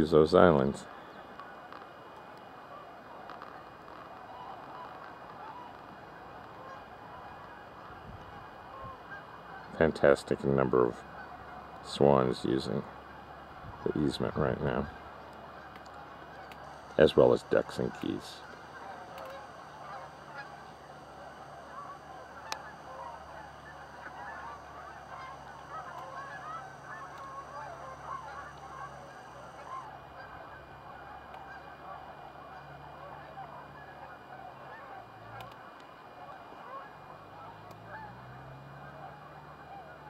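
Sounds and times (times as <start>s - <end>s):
waterfowl flock honking and calling: 0.0s - 40.0s.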